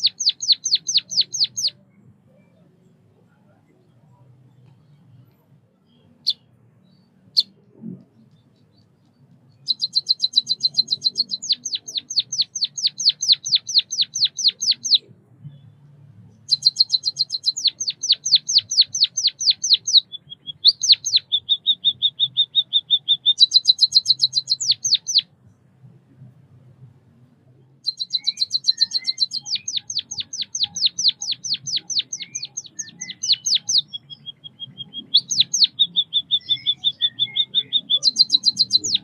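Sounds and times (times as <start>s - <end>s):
bird singing trills: 0.0s - 25.4s, 27.8s - 39.0s.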